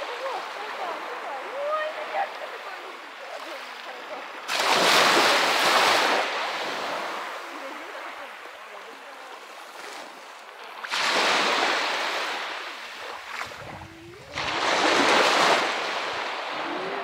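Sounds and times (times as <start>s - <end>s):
waves breaking on pebble beach: 0.0s - 17.0s.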